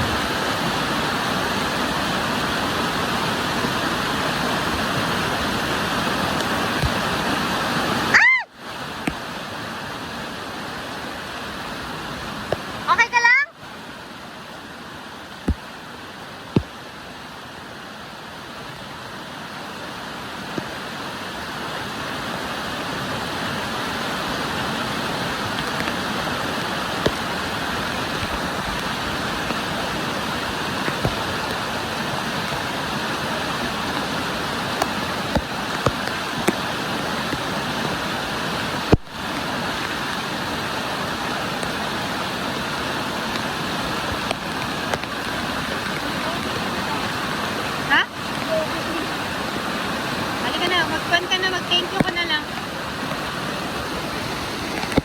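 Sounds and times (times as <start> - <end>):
rushing mountain stream: 0.0 - 55.0.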